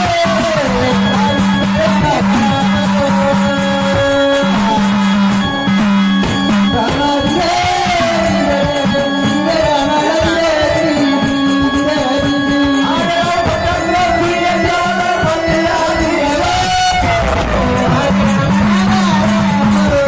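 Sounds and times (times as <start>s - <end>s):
steady drum beats: 0.0s - 20.0s
wavering sung melody: 0.0s - 20.0s.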